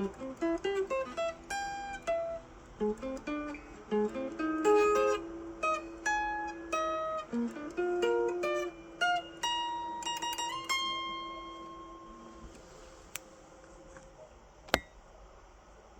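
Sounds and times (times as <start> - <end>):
guitar picked melody: 0.0 - 13.1.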